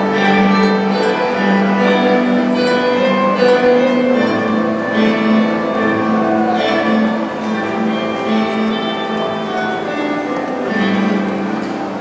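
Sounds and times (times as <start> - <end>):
bowed strings and guitar playing: 0.0 - 12.0.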